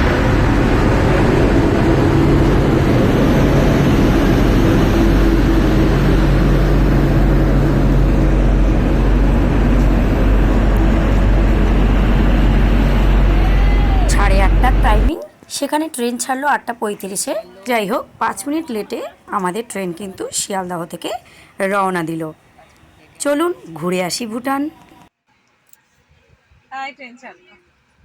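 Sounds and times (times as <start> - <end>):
electric locomotive drone: 0.0 - 25.1.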